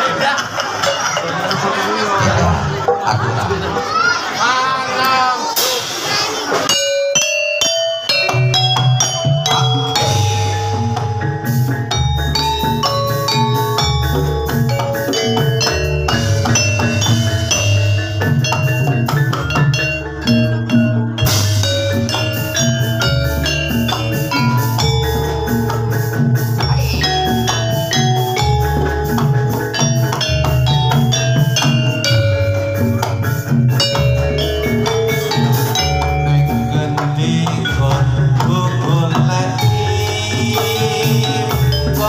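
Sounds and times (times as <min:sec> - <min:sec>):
drums: 0:00.0 - 0:42.0
mallet-struck metal notes: 0:06.6 - 0:42.0.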